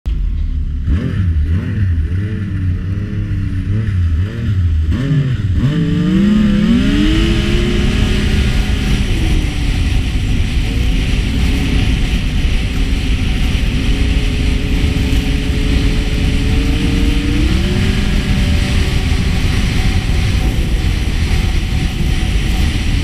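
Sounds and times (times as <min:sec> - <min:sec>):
snowmobile engine revving: 0:00.7 - 0:23.0.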